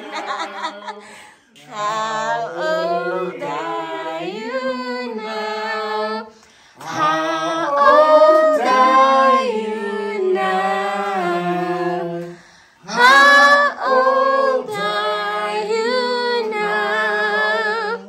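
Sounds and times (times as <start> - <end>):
women singing unaccompanied: 1.6 - 18.0.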